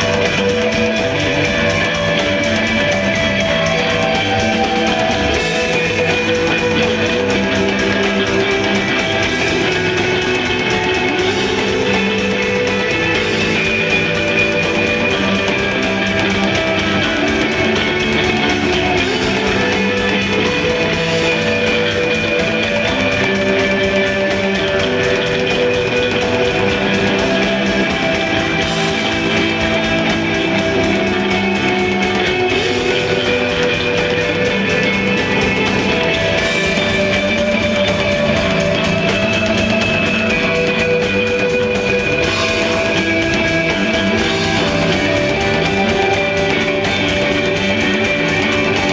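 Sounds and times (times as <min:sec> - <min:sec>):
desert rock band playing: 0:00.0 - 0:48.9
electric guitar sustained notes: 0:00.0 - 0:48.9.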